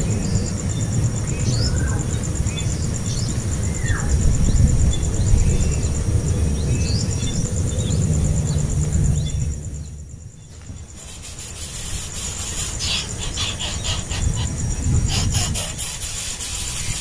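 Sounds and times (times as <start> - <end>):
high insect trill: 0.0 - 17.0
wind rumble on microphone: 0.0 - 17.0.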